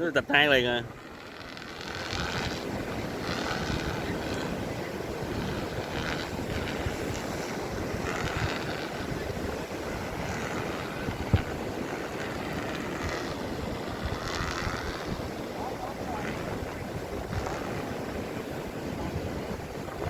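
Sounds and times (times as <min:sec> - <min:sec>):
sea surf: 0:00.0 - 0:20.0
wind rushing over microphone: 0:00.0 - 0:20.0.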